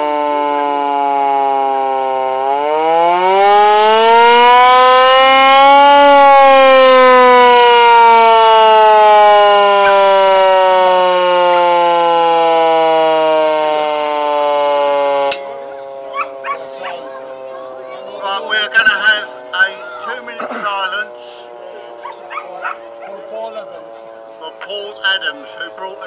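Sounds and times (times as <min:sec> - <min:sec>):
hand-cranked siren wailing: 0:00.0 - 0:26.0.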